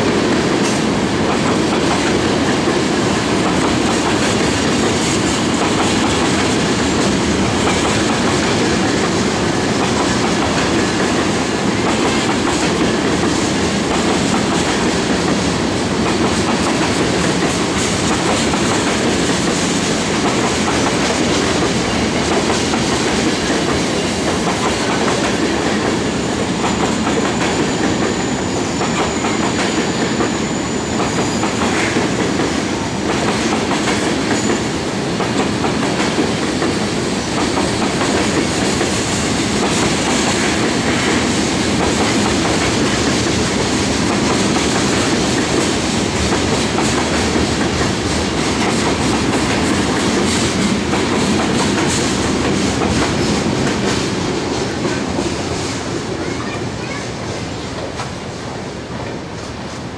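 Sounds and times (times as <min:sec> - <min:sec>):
freight train rolling past: 0:00.0 - 0:59.9
steel wheels clattering over rail joints: 0:00.1 - 0:57.0.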